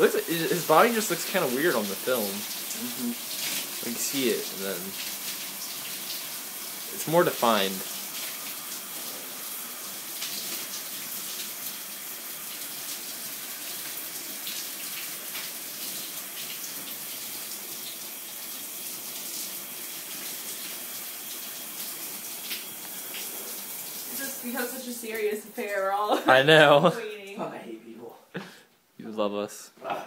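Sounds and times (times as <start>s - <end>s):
shower water running and splashing: 0.0s - 27.0s.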